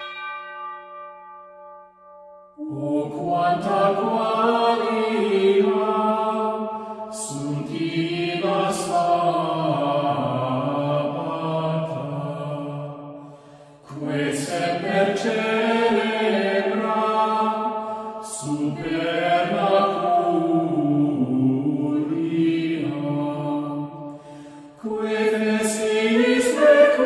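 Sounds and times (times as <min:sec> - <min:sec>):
low voices singing choral chant: 0:02.6 - 0:27.0.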